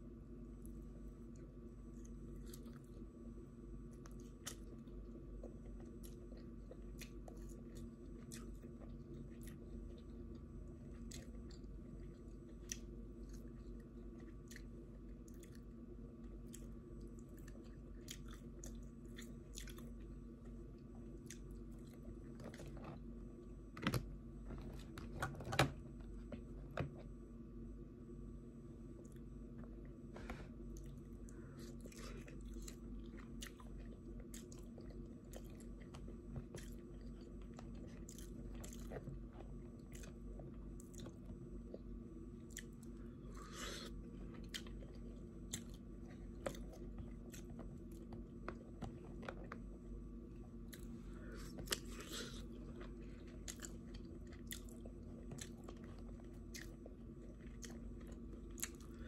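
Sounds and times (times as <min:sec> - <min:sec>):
steady low hum: 0:00.0 - 0:59.0
person chewing wetly: 0:00.6 - 0:03.1, 0:03.9 - 0:23.0, 0:30.7 - 0:59.0.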